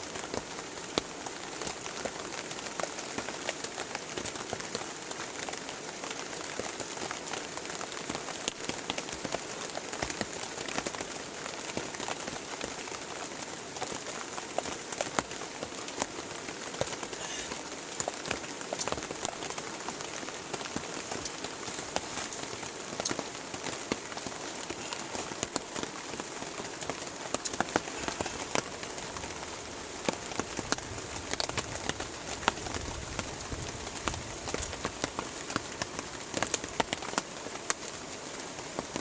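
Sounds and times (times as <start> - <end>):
rain drops striking: 0.0 - 39.0.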